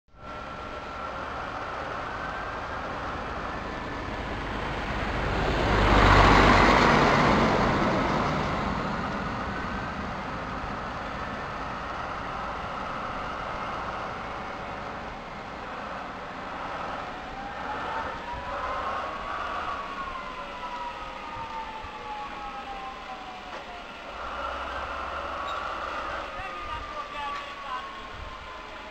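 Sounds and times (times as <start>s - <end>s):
diesel locomotive engine running: 0.1s - 28.9s
whining tone: 0.1s - 28.9s.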